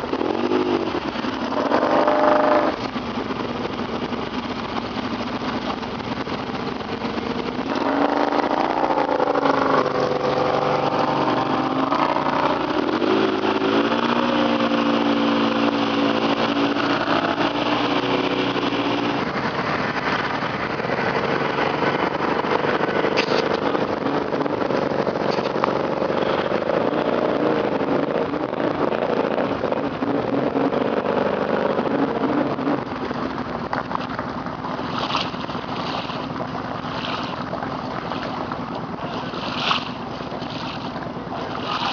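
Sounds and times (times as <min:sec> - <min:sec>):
atv engine revving: 0:00.0 - 0:41.9
rough rumble of vehicle moving: 0:00.0 - 0:41.9.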